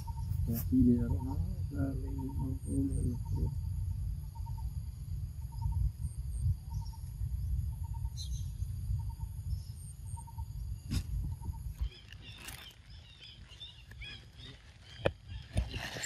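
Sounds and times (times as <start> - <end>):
crickets and insects calling: 0.0 - 16.0.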